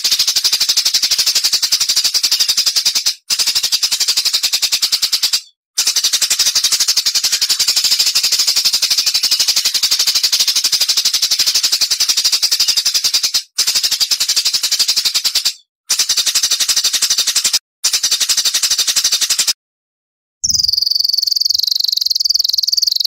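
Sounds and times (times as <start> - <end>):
songbird rapid rattling song: 0.0 - 19.6, 20.4 - 23.0.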